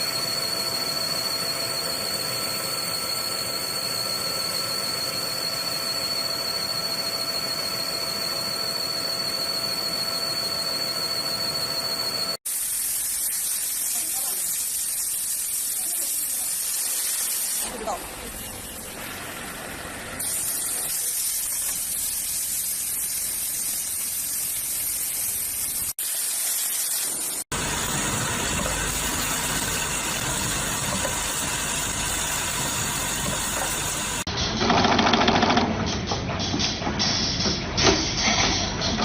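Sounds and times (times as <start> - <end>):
factory machinery hissing: 0.0 - 34.8.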